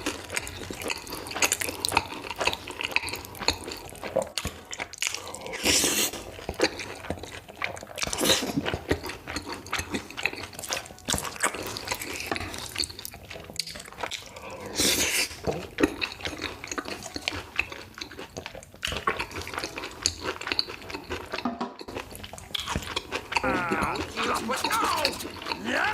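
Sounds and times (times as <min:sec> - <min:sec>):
wet chewing smacks: 0:00.0 - 0:25.9.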